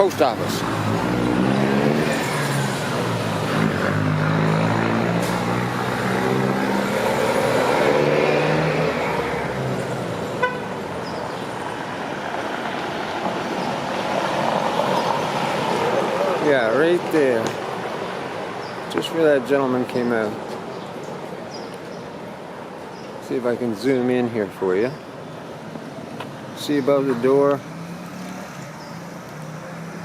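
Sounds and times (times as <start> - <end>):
traffic noise: 0.0 - 30.0.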